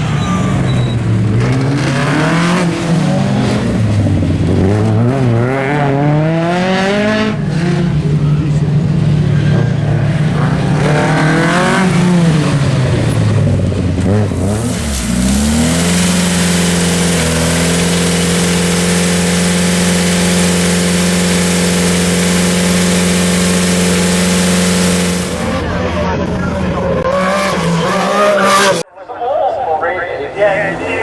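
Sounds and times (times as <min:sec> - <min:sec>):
rally car engine revving: 0:00.0 - 0:28.8.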